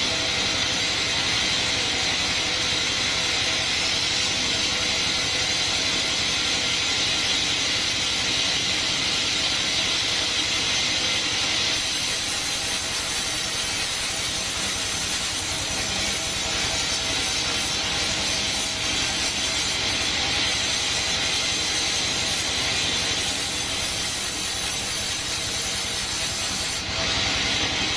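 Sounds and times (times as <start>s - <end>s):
band saw cutting wood: 0.0s - 27.9s.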